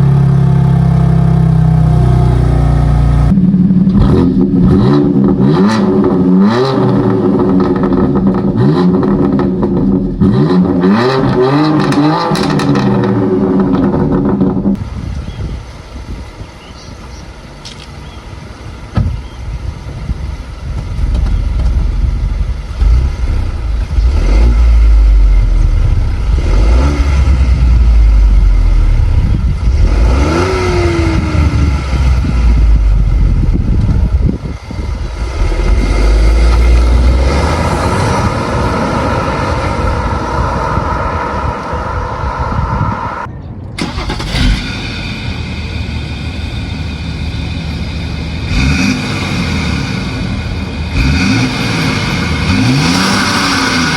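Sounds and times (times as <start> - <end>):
engine running steadily: 0.0 - 10.8, 11.8 - 53.9
car engine revving: 0.0 - 14.8, 20.8 - 53.9.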